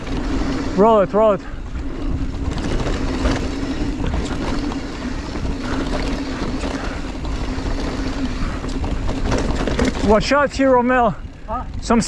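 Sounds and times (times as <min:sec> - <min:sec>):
bike tyres rumbling on dirt: 0:00.0 - 0:12.0
knocks and rattles from bumps: 0:02.1 - 0:12.0.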